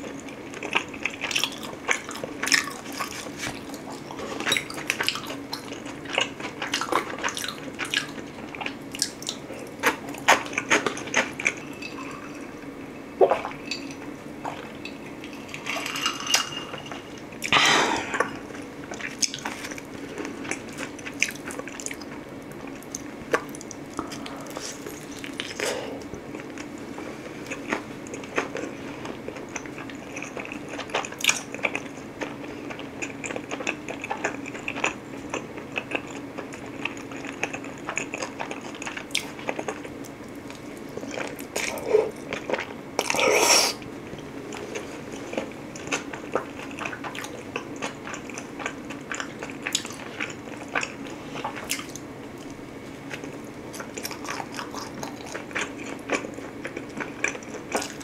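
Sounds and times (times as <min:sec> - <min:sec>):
chewing crunchy crust: 0:00.0 - 0:12.4, 0:13.2 - 0:58.0.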